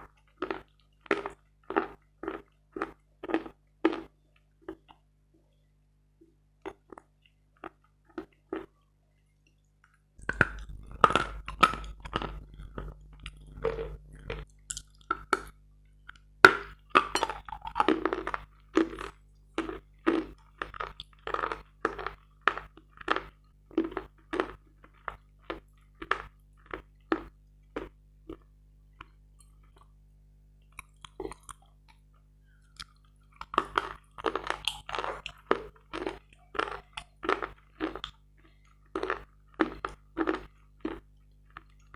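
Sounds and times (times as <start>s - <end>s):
crunching and chewing chalk: 0.0s - 5.1s, 6.6s - 8.8s, 10.2s - 30.0s, 30.6s - 41.9s.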